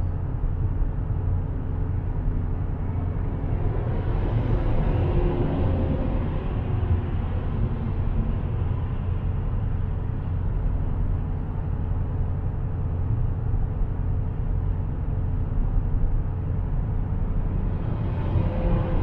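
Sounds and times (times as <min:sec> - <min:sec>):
engine and tyre rumble: 0:00.0 - 0:19.0
faint constant hum: 0:00.0 - 0:19.0.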